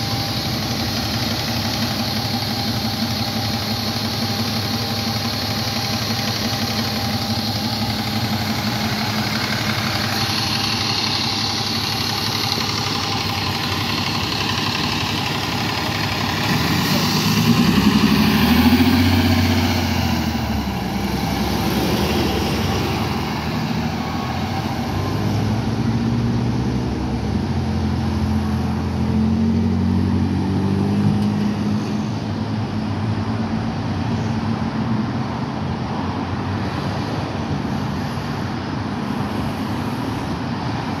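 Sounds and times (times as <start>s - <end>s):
bus diesel engine pulling away: 0.0s - 41.0s
passing cars in city traffic: 0.0s - 41.0s.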